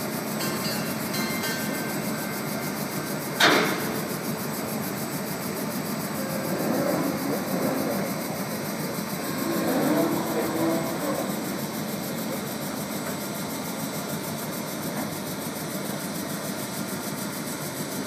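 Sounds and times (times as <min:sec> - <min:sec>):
electric locomotive rumble: 0:00.0 - 0:18.0.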